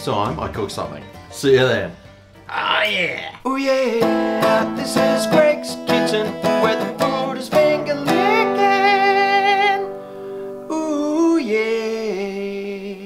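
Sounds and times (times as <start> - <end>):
acoustic guitar strums: 0.0 - 11.1
person singing with vibrato: 2.5 - 13.0.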